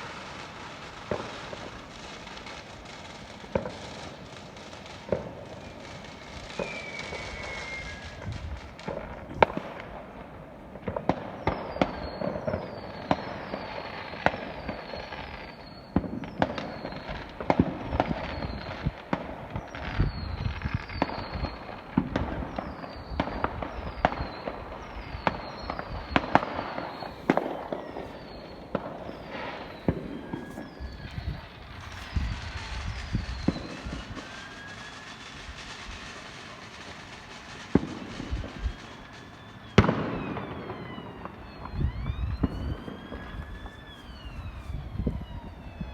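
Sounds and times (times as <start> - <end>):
falling whistle of fireworks: 0.0 - 45.9
fireworks bangs: 0.0 - 45.9.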